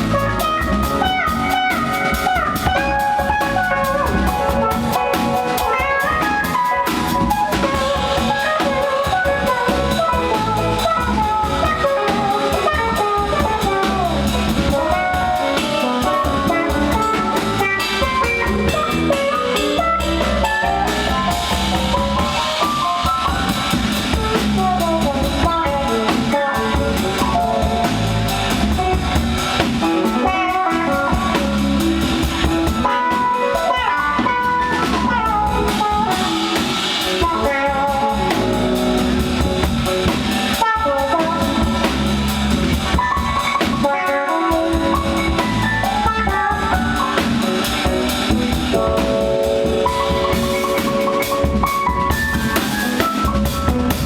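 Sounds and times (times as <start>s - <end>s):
drum kit: 0.0s - 54.0s
electric guitar lead lines: 0.0s - 54.0s.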